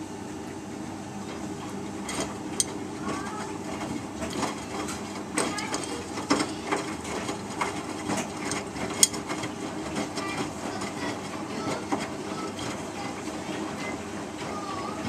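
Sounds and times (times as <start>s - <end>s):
washing machine drum motor: 0.0s - 15.0s.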